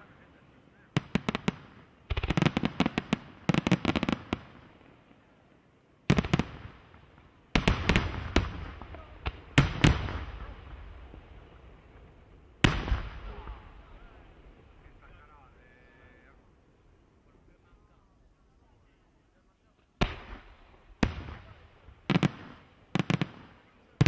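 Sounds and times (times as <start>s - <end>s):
fireworks bursting and crackling: 0.0s - 5.4s, 6.0s - 16.3s, 19.8s - 24.0s.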